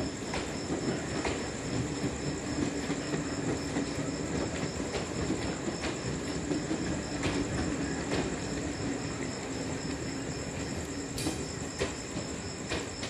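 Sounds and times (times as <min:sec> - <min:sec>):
train coaches rumbling on rails: 0:00.0 - 0:13.0.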